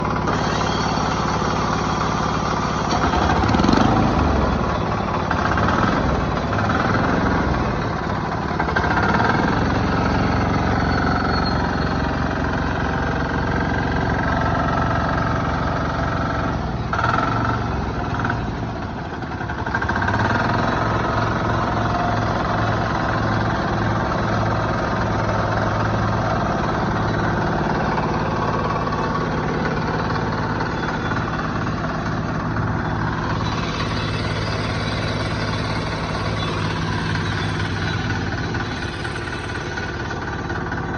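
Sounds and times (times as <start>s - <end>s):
power weeder engine running: 0.0s - 40.9s.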